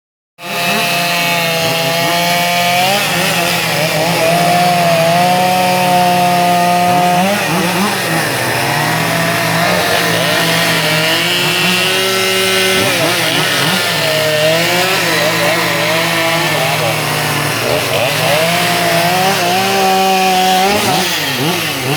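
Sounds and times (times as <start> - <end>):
chainsaw carving wood: 0.4 - 21.9.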